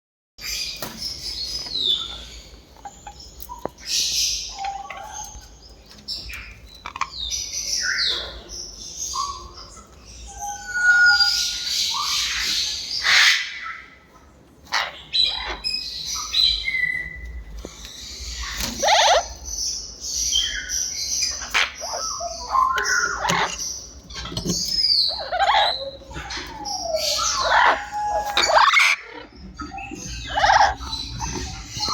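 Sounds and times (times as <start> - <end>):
parrot squawking and chirping: 1.8 - 5.6, 6.8 - 13.9, 14.7 - 17.3, 18.1 - 31.9.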